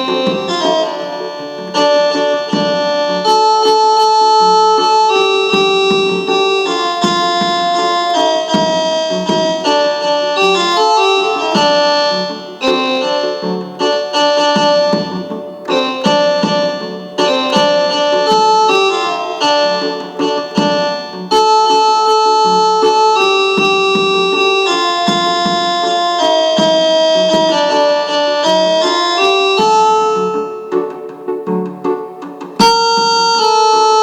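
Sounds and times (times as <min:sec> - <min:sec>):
electronic keyboard melody: 0:00.0 - 0:34.0.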